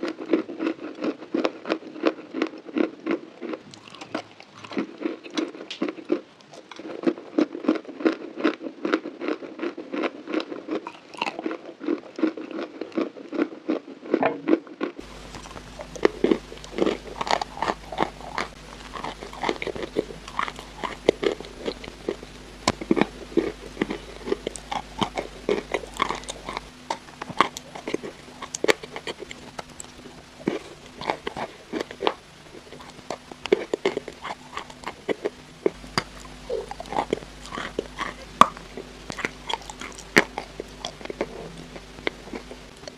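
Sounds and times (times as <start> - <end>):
faint low hum: 0.0 - 8.4, 9.8 - 42.9
crunchy chalk chewing: 0.0 - 14.2, 14.8 - 42.9.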